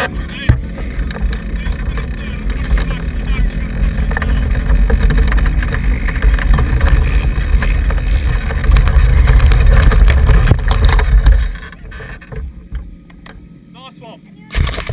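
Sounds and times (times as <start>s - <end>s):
wind buffeting on microphone: 0.0s - 13.0s
lawnmower engine running: 0.0s - 13.5s.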